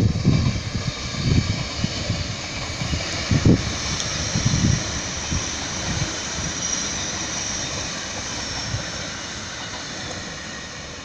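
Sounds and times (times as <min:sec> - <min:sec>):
distant diesel railcar running: 0:00.0 - 0:11.0
wind buffeting microphone: 0:00.0 - 0:11.0.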